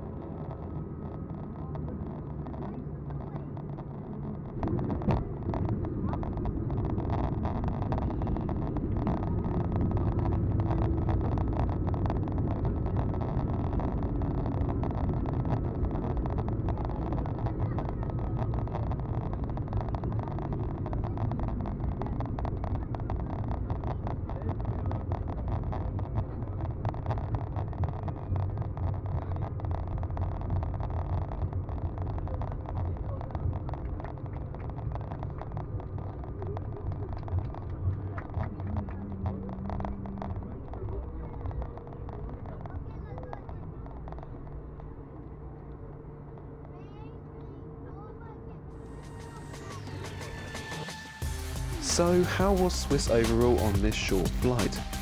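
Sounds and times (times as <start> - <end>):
low rumble of jet engines: 0.0 - 55.0.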